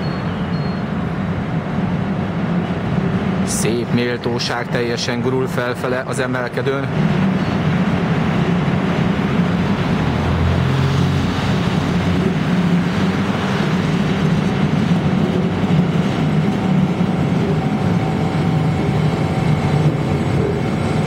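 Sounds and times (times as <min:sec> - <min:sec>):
electric tram passing: 0:00.0 - 0:21.0.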